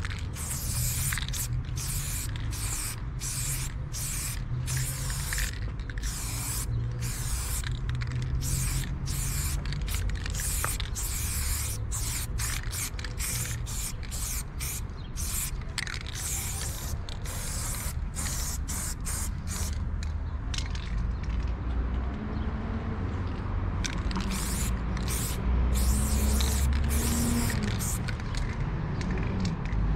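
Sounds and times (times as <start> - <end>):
spray paint can hissing: 0.0 - 19.8, 24.0 - 28.3.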